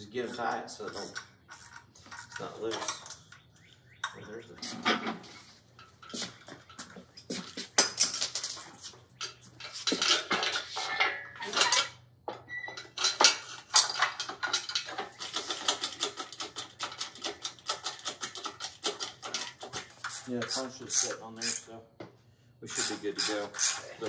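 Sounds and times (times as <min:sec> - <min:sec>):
hand tools clanking on metal: 0:00.0 - 0:03.4, 0:04.0 - 0:21.7, 0:22.7 - 0:24.0.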